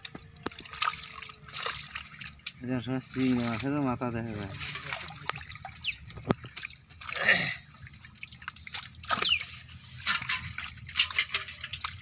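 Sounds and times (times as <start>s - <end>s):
water dripping: 0.0s - 12.0s
water splash: 0.0s - 12.0s.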